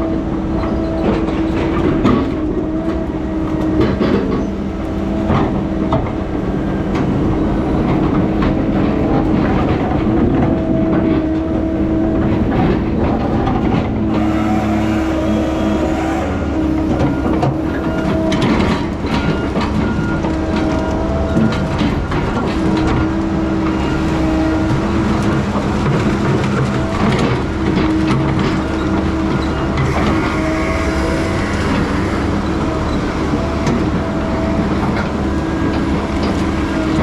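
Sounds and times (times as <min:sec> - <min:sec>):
diesel engine drone: 0:00.0 - 0:37.0
machinery pitched tones: 0:00.6 - 0:10.7, 0:13.2 - 0:21.9, 0:22.5 - 0:37.0.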